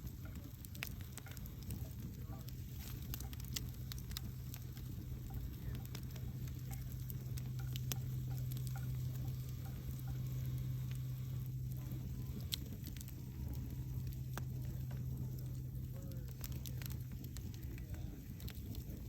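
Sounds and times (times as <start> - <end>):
campfire crackling and popping: 0.0 - 19.0
low rumble and hum: 0.0 - 19.0.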